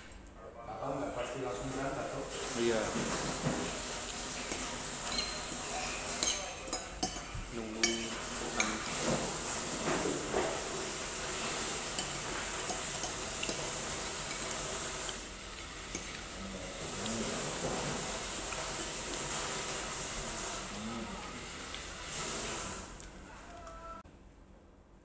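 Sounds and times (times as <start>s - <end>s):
steady hiss: 0.9s - 23.0s
utensils and dishes clinking: 1.6s - 23.0s.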